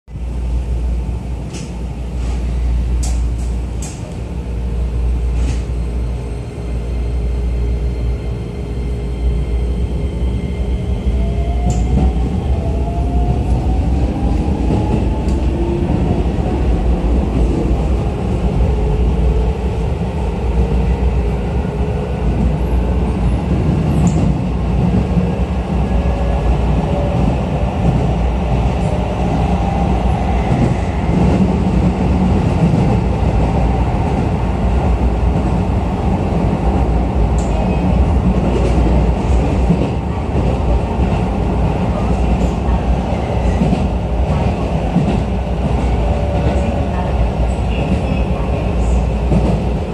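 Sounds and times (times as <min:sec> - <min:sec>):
train running gear rumble: 0:00.2 - 0:49.9.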